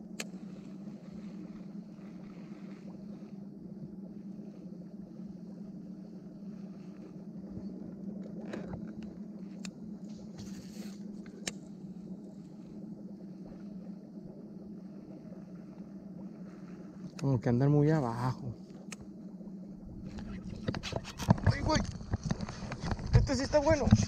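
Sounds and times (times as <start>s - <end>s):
reel spool whirring: 0.0s - 24.0s
steady low hum: 0.0s - 24.0s.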